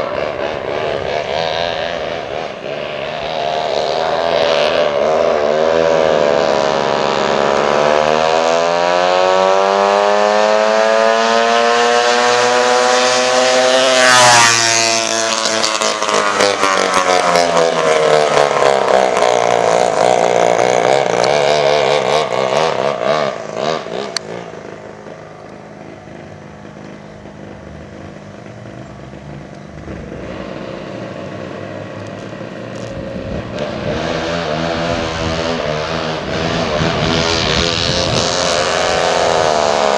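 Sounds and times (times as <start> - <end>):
go-kart two-stroke engines passing: 0.0 - 39.9.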